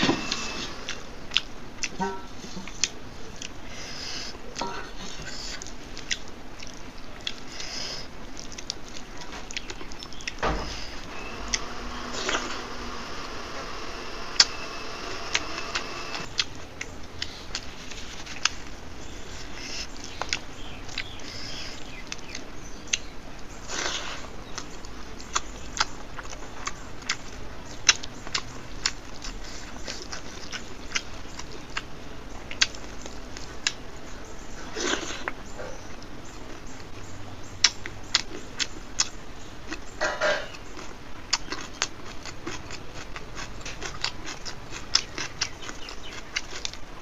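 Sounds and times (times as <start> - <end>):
person chewing food: 0.0 - 37.0, 37.6 - 47.0.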